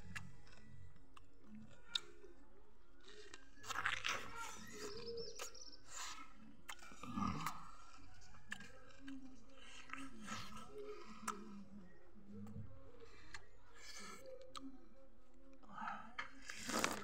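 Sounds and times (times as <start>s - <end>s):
biting and chewing lemon: 0.0s - 15.6s, 16.2s - 17.0s.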